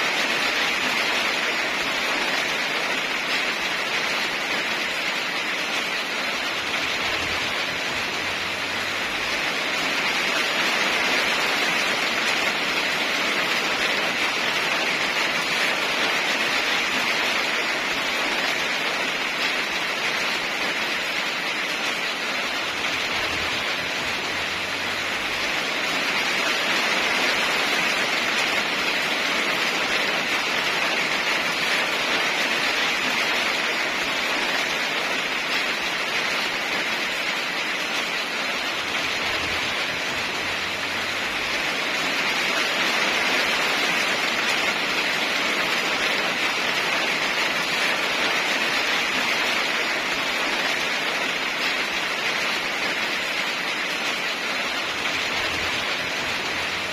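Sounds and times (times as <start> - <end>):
heavy rain hiss: 0.0 - 56.9.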